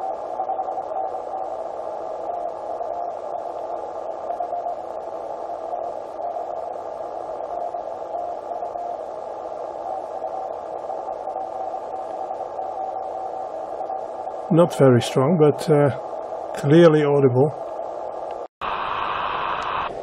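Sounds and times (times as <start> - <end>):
faint radio tone: 0.0 - 17.8, 18.6 - 20.0
radio band noise and interference: 0.0 - 20.0.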